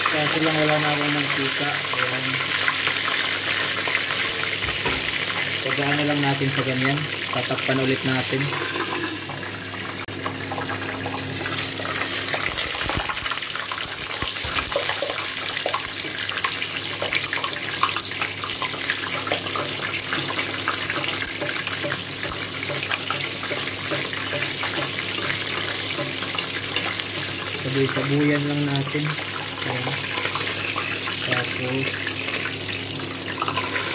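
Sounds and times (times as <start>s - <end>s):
chicken frying crackling sizzle: 0.0s - 33.9s.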